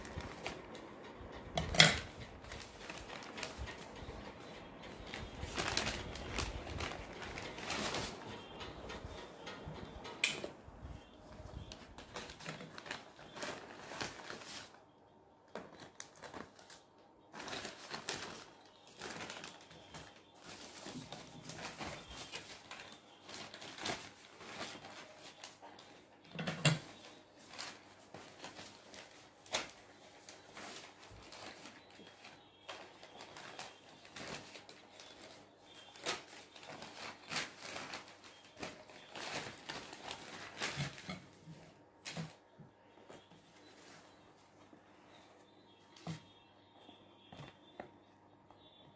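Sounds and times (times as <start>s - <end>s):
paper bag rustling and crinkling: 0.0s - 14.8s, 15.5s - 46.5s.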